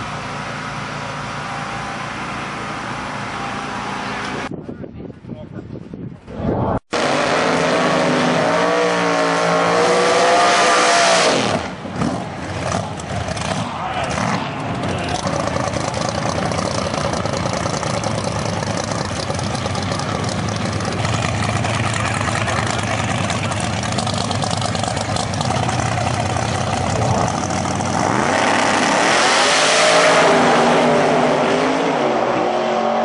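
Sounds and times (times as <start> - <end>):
race car engines revving: 6.3 - 33.0.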